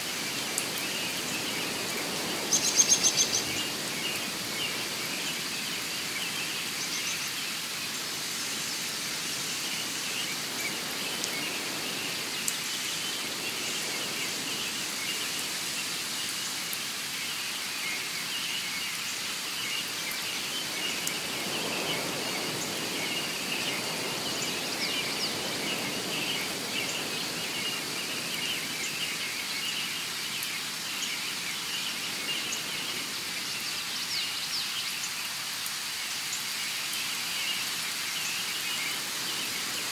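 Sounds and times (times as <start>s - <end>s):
rain-like hiss: 0.0s - 39.9s.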